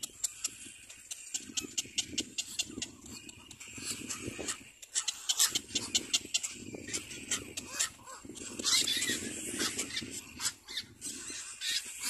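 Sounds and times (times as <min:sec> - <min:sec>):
cormorants clicking and rasping: 0:00.0 - 0:12.0.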